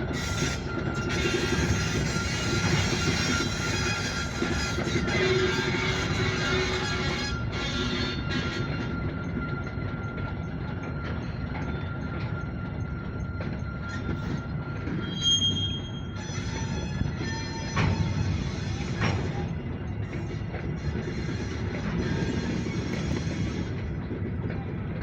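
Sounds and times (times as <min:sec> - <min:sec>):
freight train rumbling: 0:00.0 - 0:25.0
train wheels squealing: 0:00.0 - 0:25.0.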